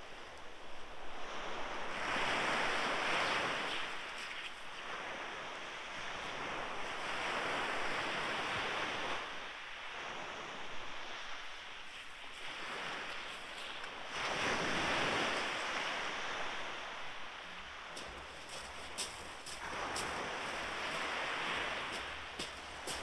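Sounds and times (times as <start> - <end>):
small waves breaking on beach: 0.0 - 23.0.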